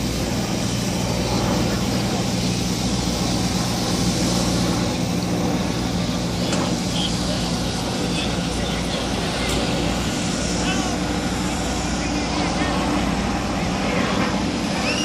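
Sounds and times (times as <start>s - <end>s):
fire engine running: 0.0s - 15.0s.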